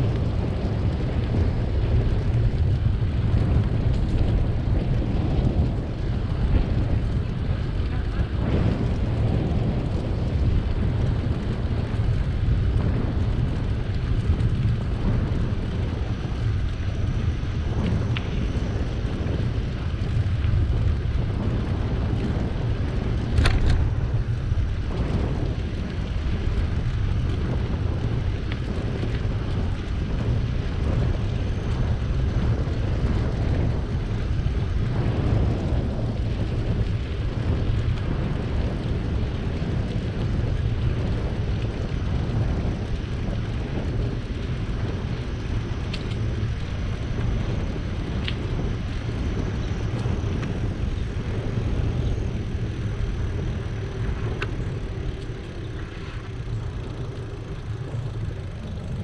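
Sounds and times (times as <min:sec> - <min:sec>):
bicycle tyres rolling: 0:00.0 - 0:59.0
wind on microphone: 0:00.0 - 0:59.0.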